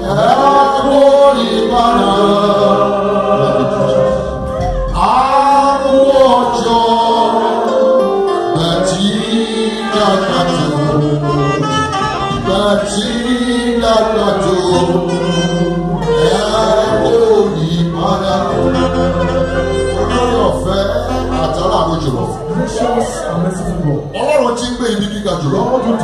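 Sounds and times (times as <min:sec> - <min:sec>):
congregation singing with instruments: 0:00.0 - 0:24.1.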